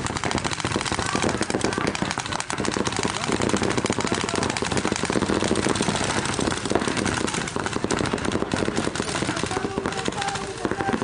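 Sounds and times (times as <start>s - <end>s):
paintball markers firing rapidly: 0.0s - 11.0s.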